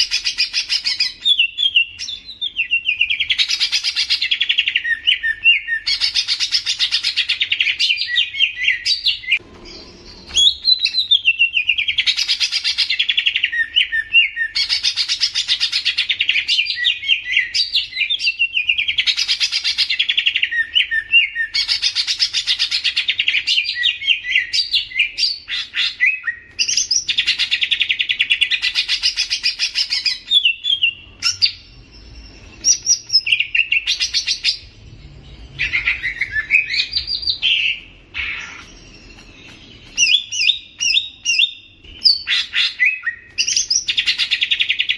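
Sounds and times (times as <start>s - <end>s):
songbird singing trilled phrases: 0.0s - 44.9s.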